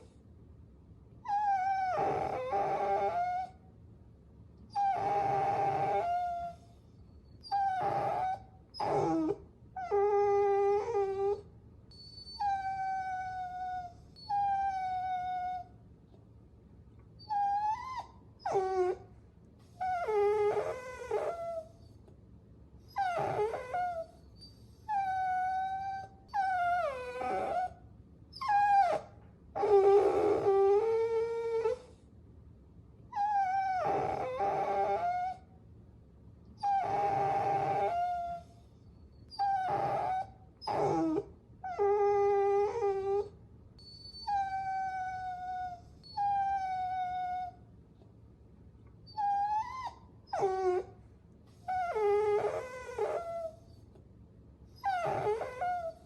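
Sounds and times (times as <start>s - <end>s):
puppy whining: 1.2s - 3.6s, 4.7s - 16.2s, 17.0s - 22.2s, 22.8s - 32.0s, 33.1s - 35.6s, 36.6s - 48.1s, 48.9s - 54.1s, 54.7s - 56.0s.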